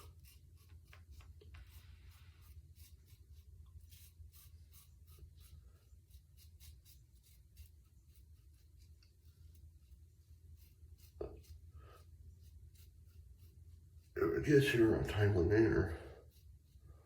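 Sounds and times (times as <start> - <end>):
razor scraping stubble: 0.0 - 17.0.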